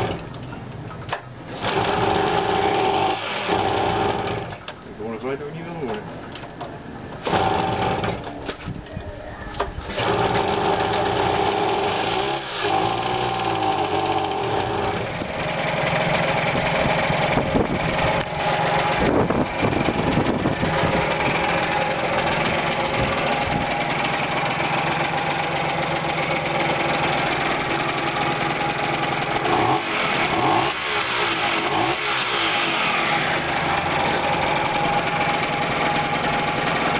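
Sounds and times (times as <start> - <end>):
two-stroke moped engine running: 0.0 - 0.6, 1.4 - 4.8, 7.2 - 8.4, 9.6 - 36.9.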